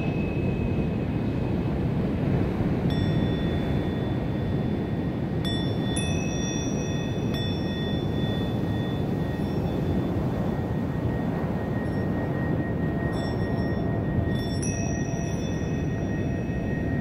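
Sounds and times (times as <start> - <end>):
handheld bell ringing: 2.8 - 17.0.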